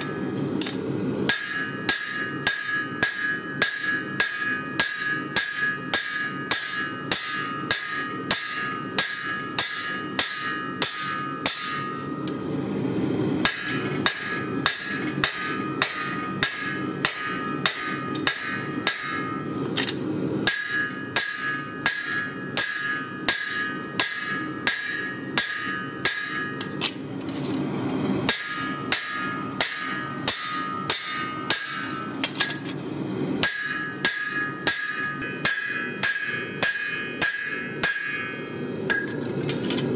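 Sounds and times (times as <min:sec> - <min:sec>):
hammer ringing on anvil: 0:00.0 - 0:12.5, 0:13.4 - 0:26.9, 0:28.3 - 0:32.6, 0:33.4 - 0:39.2.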